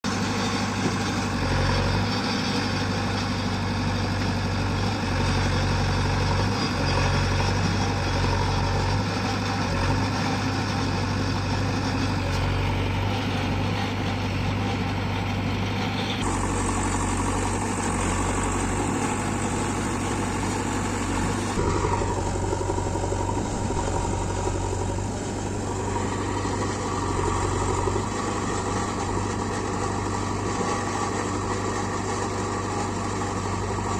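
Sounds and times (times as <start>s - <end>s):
backhoe diesel engine running: 0.0s - 33.9s.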